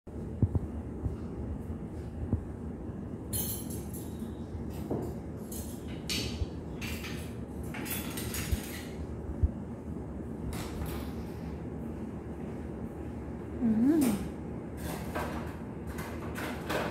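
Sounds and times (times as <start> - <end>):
steady low hum: 0.1 - 16.6.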